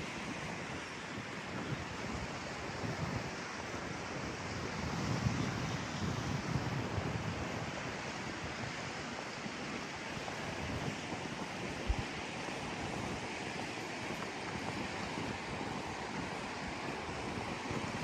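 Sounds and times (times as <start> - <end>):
mountain stream rushing: 0.0 - 18.0
wind rumble on microphone: 0.0 - 18.0.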